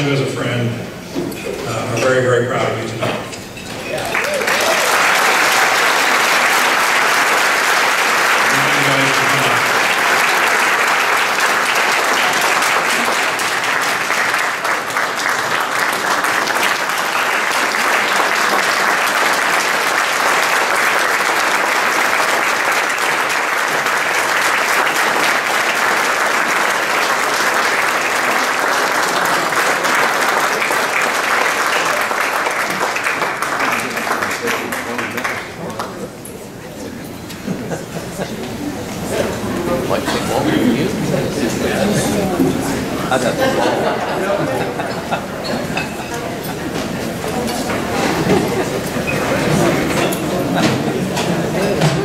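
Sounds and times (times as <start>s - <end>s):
audience applauding: 3.9s - 36.2s, 37.6s - 52.0s.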